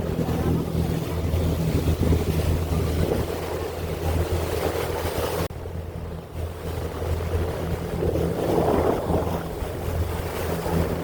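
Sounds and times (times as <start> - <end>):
boat engine humming: 0.0 - 11.0
water rushing: 0.0 - 11.0
wind on microphone: 0.0 - 11.0.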